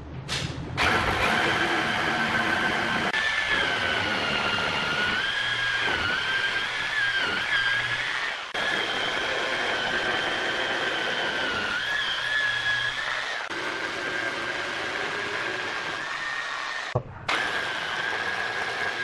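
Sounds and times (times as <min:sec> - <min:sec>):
hammer drill boring into wall: 0:00.8 - 0:19.0.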